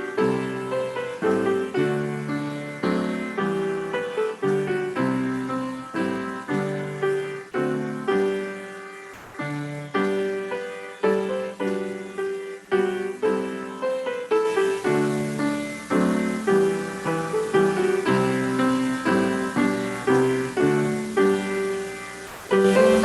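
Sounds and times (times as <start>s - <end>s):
piano playing hymn chords: 0.0s - 23.0s.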